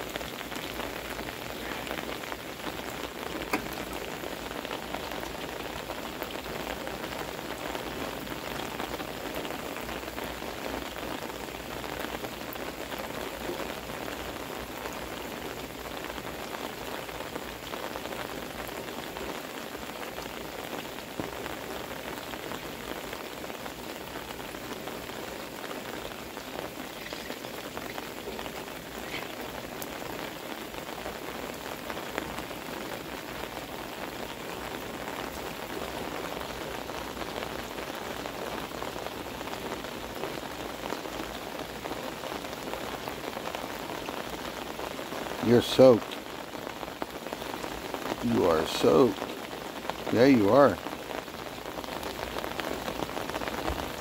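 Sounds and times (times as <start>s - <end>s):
heavy rain pouring: 0.0s - 54.0s
rain on wooden deck: 0.0s - 54.0s
rain pattering on umbrella: 0.0s - 54.0s.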